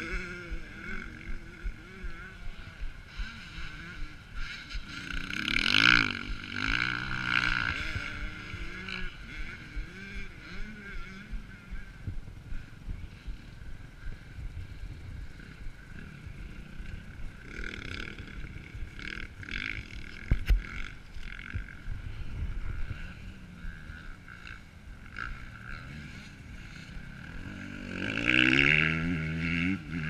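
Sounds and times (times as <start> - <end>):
distant motocross bikes revving: 0.0 - 30.0.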